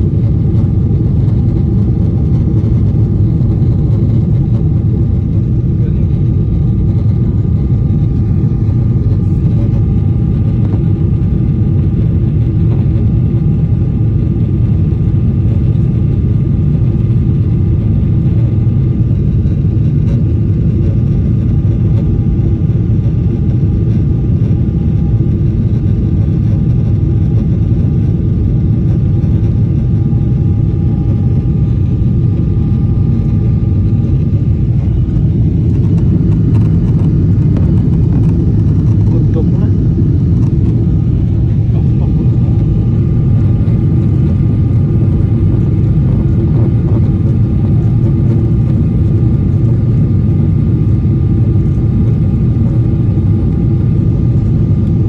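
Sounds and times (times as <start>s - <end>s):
faint steady whine: 0.0s - 55.0s
jet engine cabin rumble: 0.0s - 55.0s.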